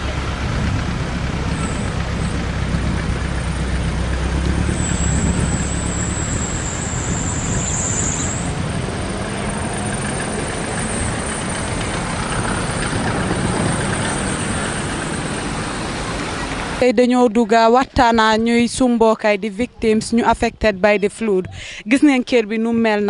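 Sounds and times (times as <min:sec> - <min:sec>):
outdoor rumble and hiss: 0:00.0 - 0:23.0.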